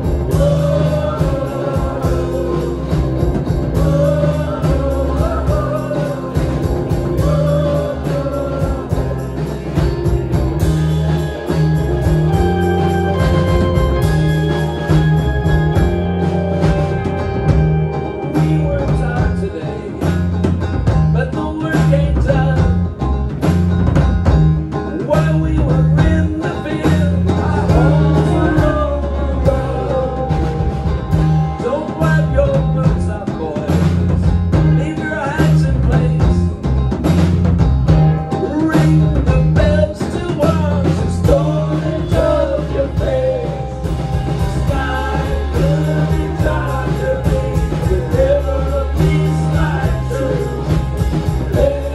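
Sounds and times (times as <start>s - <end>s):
man singing: 0.0s - 23.0s, 24.8s - 36.7s, 38.3s - 51.9s
live country band playing: 0.0s - 51.9s
steady drum beat: 0.0s - 51.9s.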